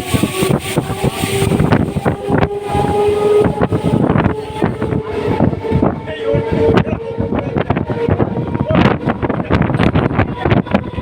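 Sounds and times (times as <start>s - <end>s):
electric train rattling: 0.0s - 11.0s
electric train whine: 0.0s - 11.0s.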